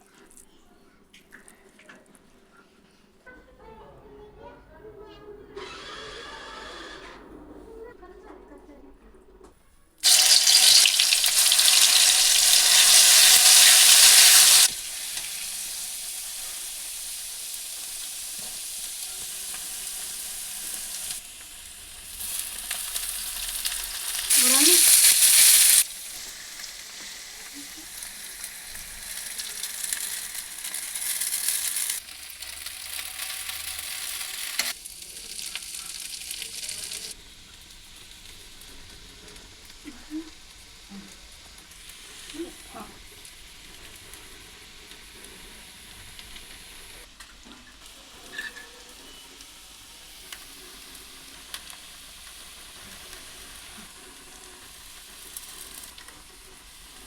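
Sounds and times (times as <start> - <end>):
food sizzling in hot oil: 10.0 - 47.1, 47.8 - 57.0.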